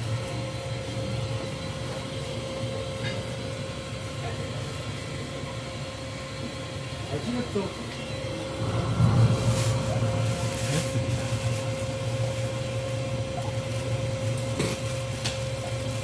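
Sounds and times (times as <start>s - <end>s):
machine motor humming and whining: 0.0s - 16.0s.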